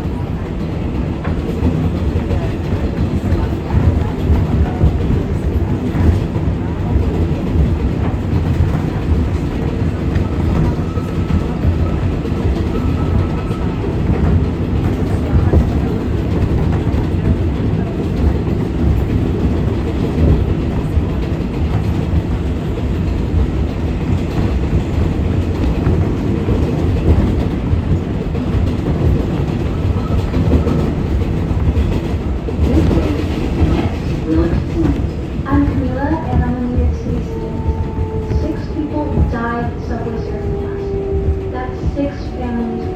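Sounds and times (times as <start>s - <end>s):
clickety-clack over rail joints: 0.0s - 42.9s
subway train wheels rumbling: 0.0s - 42.9s.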